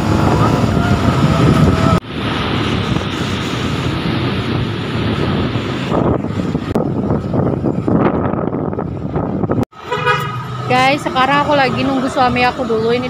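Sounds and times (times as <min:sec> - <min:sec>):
road and traffic noise: 0:00.0 - 0:13.0
wind rushing over microphone: 0:00.0 - 0:13.0.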